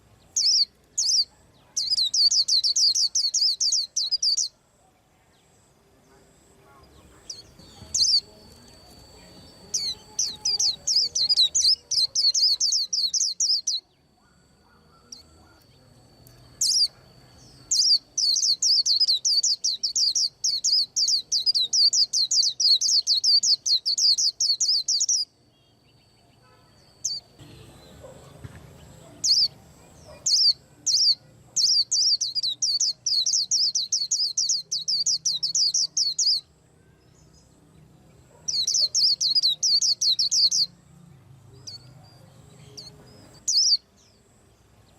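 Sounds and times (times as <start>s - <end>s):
bird twittering chirps: 0.0s - 4.6s, 6.8s - 40.8s, 41.5s - 44.9s.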